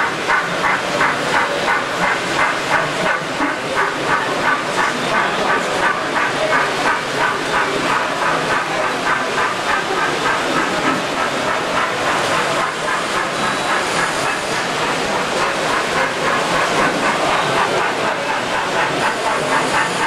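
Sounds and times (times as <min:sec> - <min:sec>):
busy exhibition hall din: 0:00.0 - 0:20.0.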